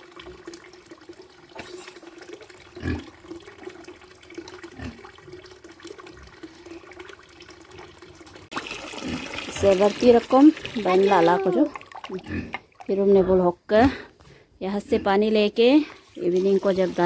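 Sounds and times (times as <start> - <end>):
water running: 0.0 - 13.2, 15.2 - 17.0.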